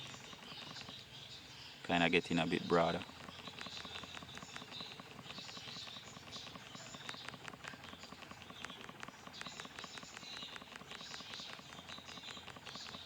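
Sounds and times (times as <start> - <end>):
small fire crackling: 2.2 - 13.0.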